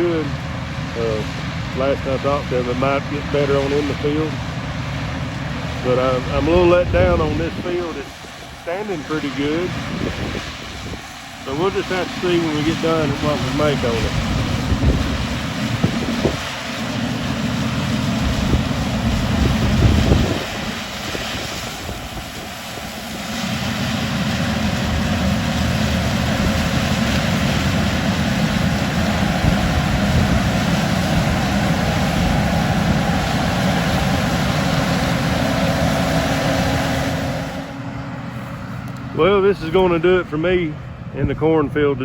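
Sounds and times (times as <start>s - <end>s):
harvester engine drone: 0.0s - 42.0s.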